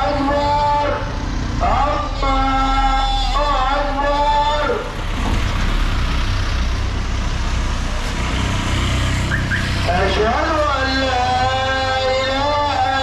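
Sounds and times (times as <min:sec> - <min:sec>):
traffic noise: 0:00.0 - 0:13.0
truck engine driving past: 0:00.0 - 0:13.0.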